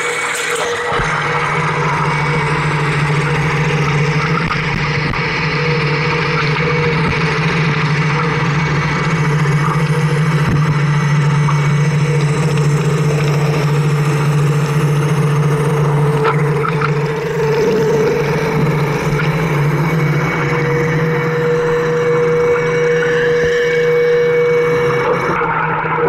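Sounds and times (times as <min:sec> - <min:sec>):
drone motors humming: 0:00.0 - 0:26.0.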